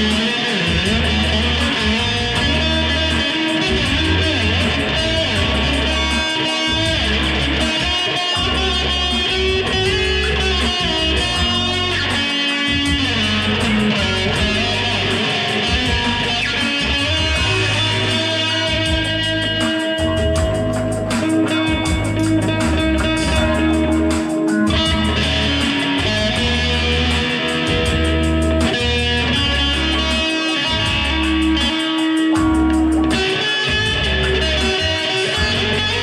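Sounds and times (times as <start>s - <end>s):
backing track with bass line: 0.0s - 36.0s
electric guitar: 0.0s - 36.0s.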